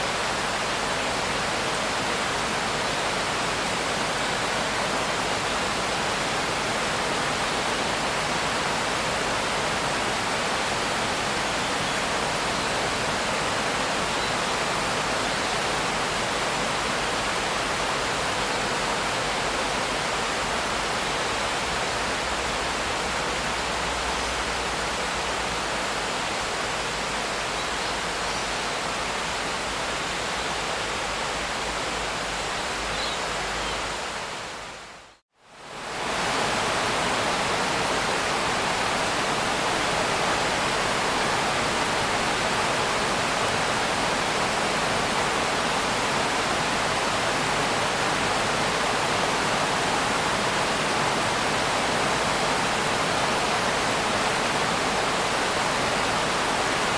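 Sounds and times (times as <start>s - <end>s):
rain hiss: 0.0s - 56.9s.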